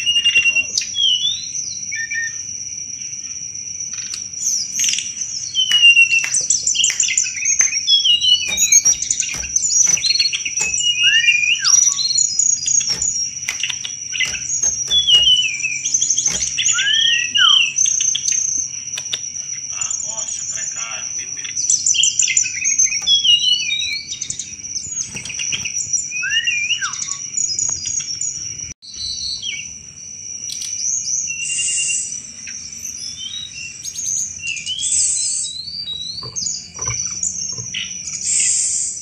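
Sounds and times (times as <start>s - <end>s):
bird chattering song: 3.9s - 29.7s, 30.5s - 38.8s.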